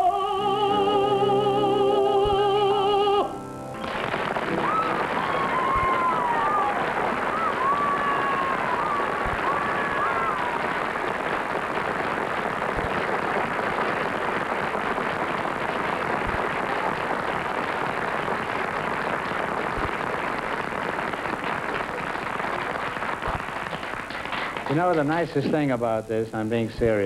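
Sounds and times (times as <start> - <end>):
studio audience applauding: 3.8 - 25.9.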